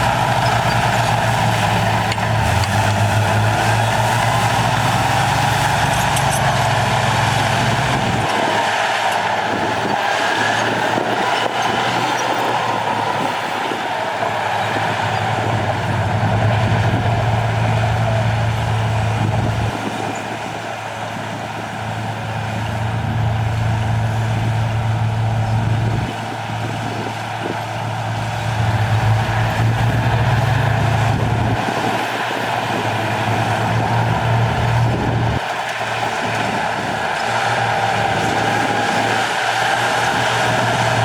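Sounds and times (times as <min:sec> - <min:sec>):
diesel machinery engine: 0:00.0 - 0:41.0.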